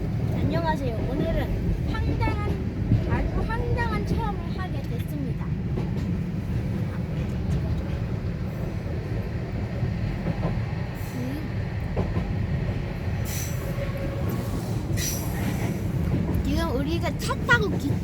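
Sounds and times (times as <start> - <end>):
train rumbling in motion: 0.0 - 18.0.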